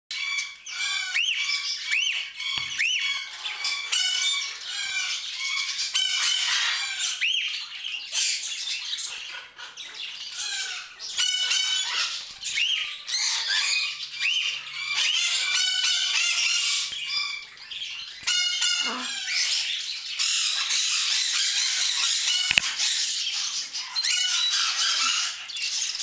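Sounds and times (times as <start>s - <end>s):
whistled bird calls: 0.1s - 9.4s, 10.4s - 26.0s
cockatiels chirping and squawking: 0.1s - 26.0s.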